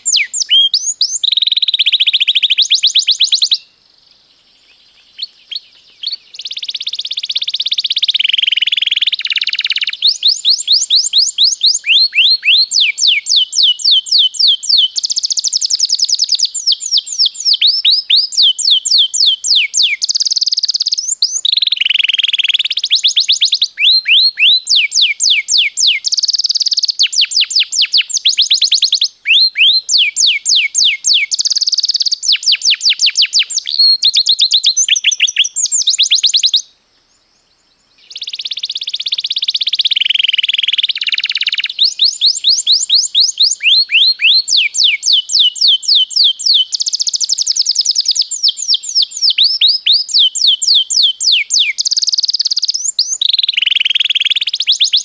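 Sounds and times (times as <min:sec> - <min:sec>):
canary singing: 0:00.0 - 0:03.7, 0:04.7 - 0:36.7, 0:38.0 - 0:55.0.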